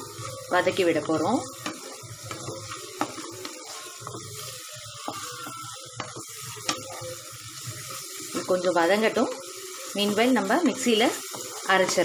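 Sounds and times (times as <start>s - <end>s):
oil sizzling: 0.0s - 12.0s
wooden spatula scraping a pan: 0.0s - 12.0s.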